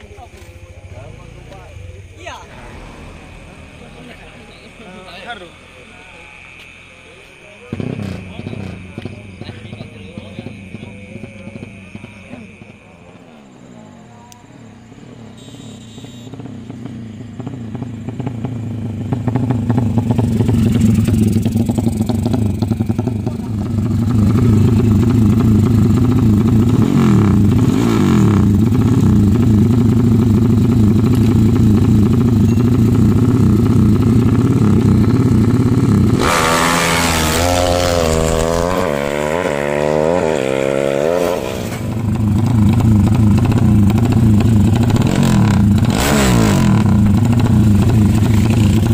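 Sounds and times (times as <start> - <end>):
motorcycle engine running hard: 0.0 - 13.2, 14.9 - 48.9.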